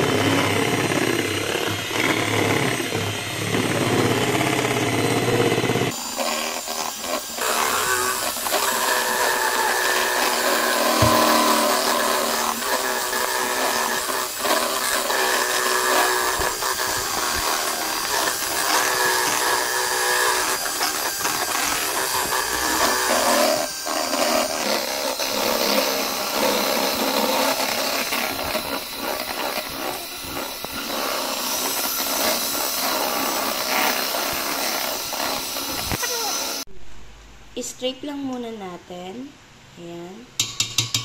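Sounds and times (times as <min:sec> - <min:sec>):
electric hand mixer whipping: 0:00.0 - 0:36.7.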